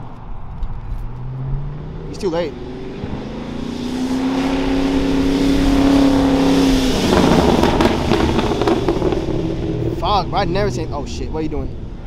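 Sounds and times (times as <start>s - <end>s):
car engine and exhaust driving past: 0.0s - 12.0s
exhaust cracks: 0.0s - 12.0s.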